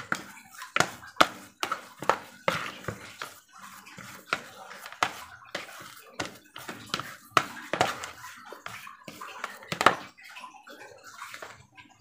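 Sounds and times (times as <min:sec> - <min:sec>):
paddle slapping dough in bowl: 0:00.0 - 0:11.7.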